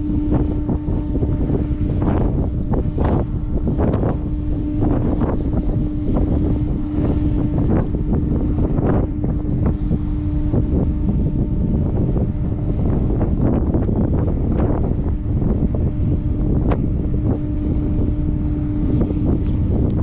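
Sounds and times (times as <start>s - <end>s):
ferry diesel engines droning: 0.0s - 20.0s
wind buffeting microphone: 0.0s - 20.0s.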